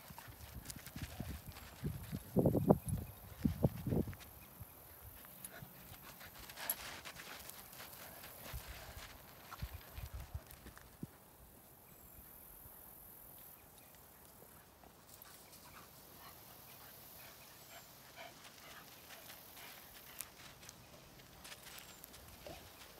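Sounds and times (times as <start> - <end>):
dog paws on gravel: 0.0 - 11.2, 13.8 - 22.9.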